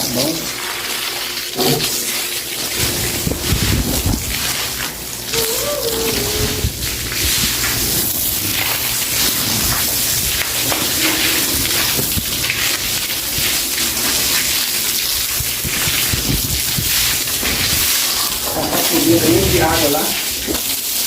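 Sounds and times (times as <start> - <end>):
broom scrubbing wet floor: 0.0 - 21.0
wash of water: 0.0 - 21.0.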